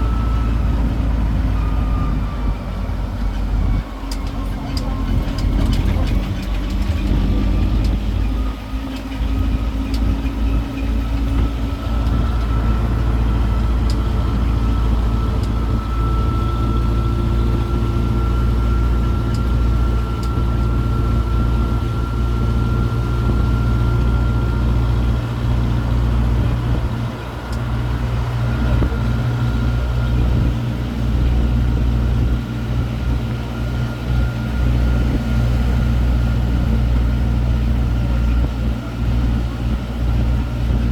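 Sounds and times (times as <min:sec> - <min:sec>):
train engine rumble: 0:00.0 - 0:40.9.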